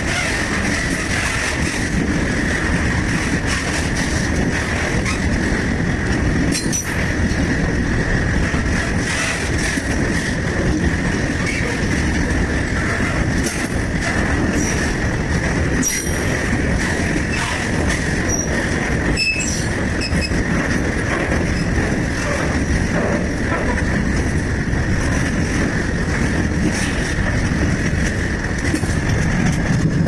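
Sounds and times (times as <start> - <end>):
freight train rumbling on rails: 0.0 - 30.0.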